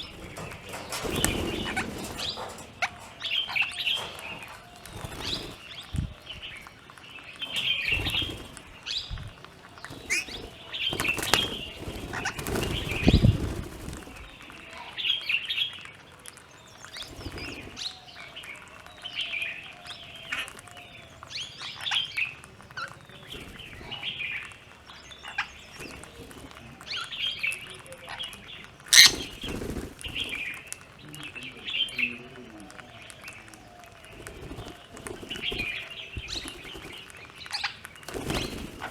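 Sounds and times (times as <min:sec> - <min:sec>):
wing flapping: 0:00.0 - 0:15.4, 0:16.2 - 0:19.0, 0:19.8 - 0:38.9
birds chirping: 0:00.0 - 0:38.9.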